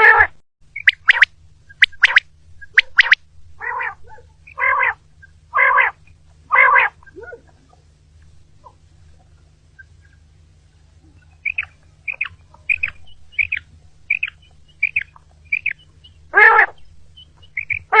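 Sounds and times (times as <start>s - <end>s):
quail short high chirps: 0.0s - 7.8s, 11.0s - 18.0s
quail drawn-out low call: 0.0s - 18.0s.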